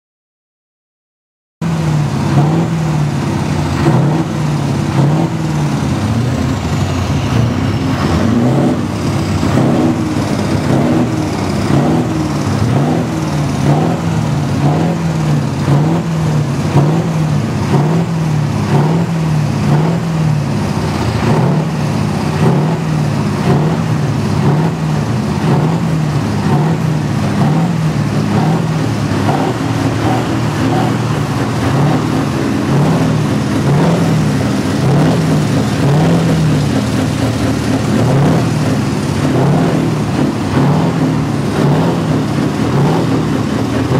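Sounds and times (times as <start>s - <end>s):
truck engines revving: 1.6s - 43.9s.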